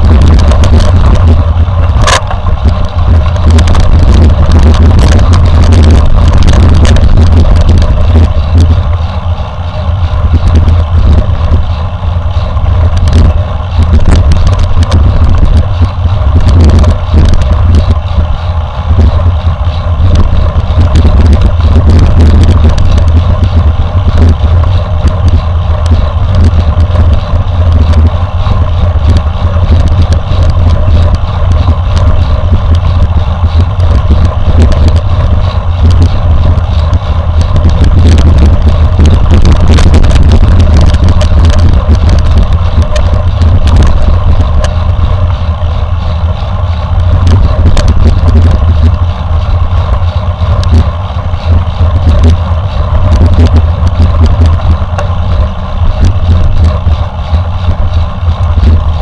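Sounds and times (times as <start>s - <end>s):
bike rattling and knocking: 0.0s - 59.0s
wind rumble on microphone: 0.0s - 59.0s.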